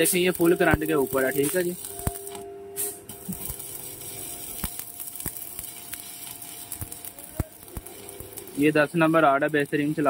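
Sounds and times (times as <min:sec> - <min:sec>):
spatter popping: 0:00.0 - 0:10.0
welding arc crackling hiss: 0:00.0 - 0:10.0.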